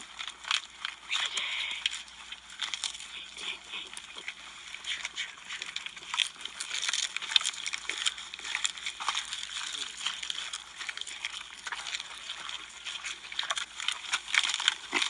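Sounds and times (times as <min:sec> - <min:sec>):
pigs crunching cabbage leaves: 0:00.0 - 0:15.0.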